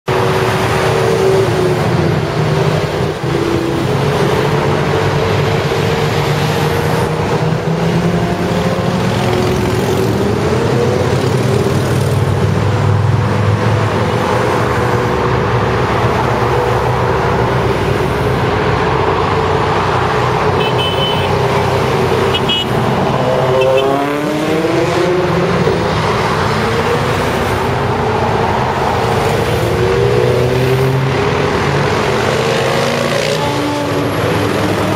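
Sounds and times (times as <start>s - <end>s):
motorcycle engines: 0.0s - 34.9s
motorway traffic tyre noise: 0.0s - 34.9s
motorcycles accelerating: 0.1s - 34.9s.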